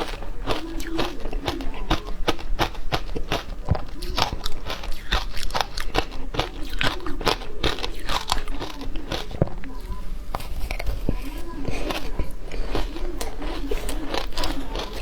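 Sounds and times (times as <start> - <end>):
frozen ice crunching in chewing: 0.0 - 15.0.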